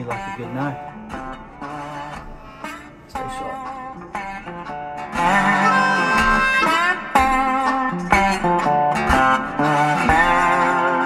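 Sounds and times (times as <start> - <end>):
guitar instrumental with sliding notes: 0.0 - 11.0.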